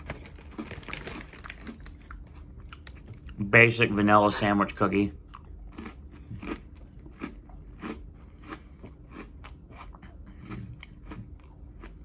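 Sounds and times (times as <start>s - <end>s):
crunchy cookie chewing: 0.0s - 3.5s, 4.8s - 12.0s.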